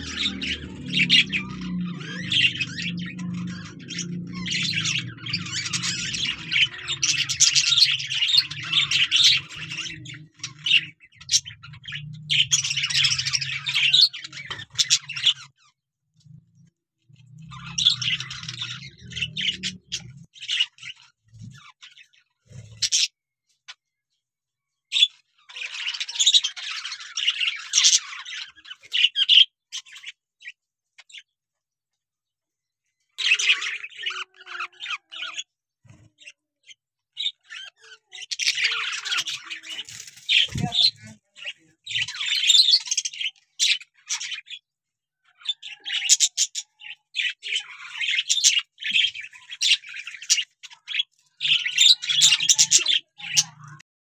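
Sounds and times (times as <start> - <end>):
budgerigars chirping and chattering: 0.0 - 16.4, 17.1 - 23.8, 24.8 - 31.3, 33.1 - 44.6, 45.2 - 53.8.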